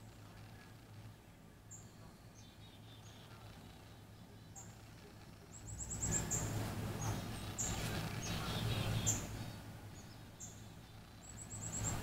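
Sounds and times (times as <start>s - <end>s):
bird chirping: 1.6s - 12.0s.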